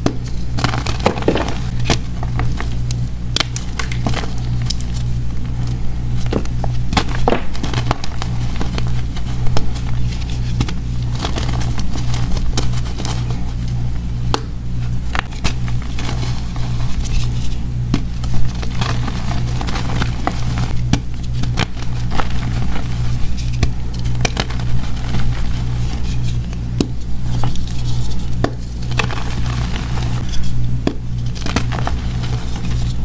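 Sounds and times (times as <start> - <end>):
steady low hum: 0.0 - 33.0
chalk crunching and crackling: 0.2 - 13.8, 14.9 - 33.0.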